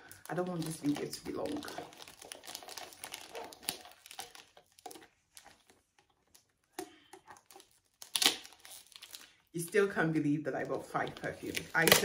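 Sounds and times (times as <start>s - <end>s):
packaging crinkling: 0.0s - 9.9s, 10.6s - 12.0s.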